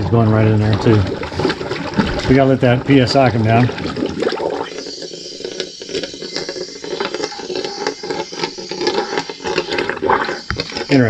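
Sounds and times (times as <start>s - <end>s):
air and fluid hissing from hose: 0.0s - 11.0s.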